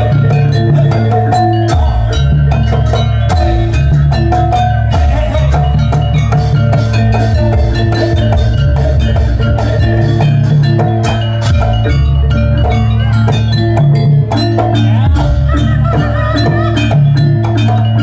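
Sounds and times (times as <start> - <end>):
drum strokes: 0.0 - 18.0
gamelan metallophones ringing: 0.0 - 18.0.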